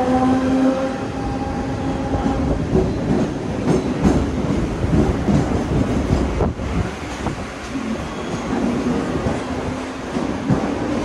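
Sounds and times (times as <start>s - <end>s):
train wheels clattering on track: 2.2s - 11.0s.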